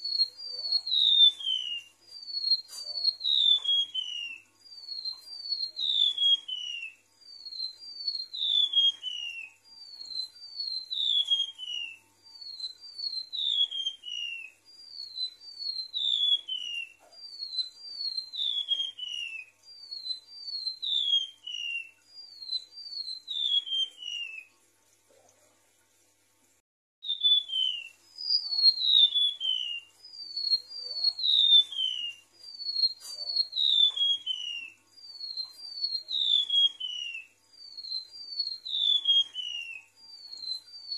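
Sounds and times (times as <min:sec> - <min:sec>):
bird song high whistled phrases: 0:00.0 - 0:24.6, 0:27.0 - 0:40.9.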